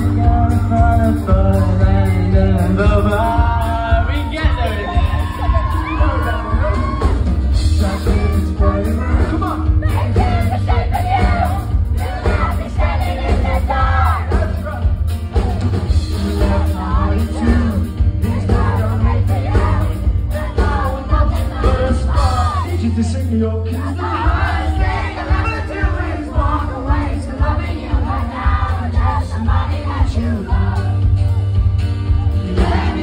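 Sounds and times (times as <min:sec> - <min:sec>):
man singing: 0:00.0 - 0:12.6, 0:13.3 - 0:31.0, 0:32.3 - 0:33.0
pop-rock band playing: 0:00.0 - 0:33.0.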